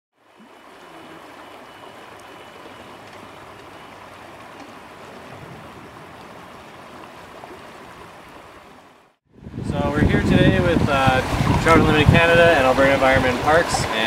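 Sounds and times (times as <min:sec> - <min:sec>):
river water over rocks: 0:00.2 - 0:09.6, 0:10.3 - 0:14.0.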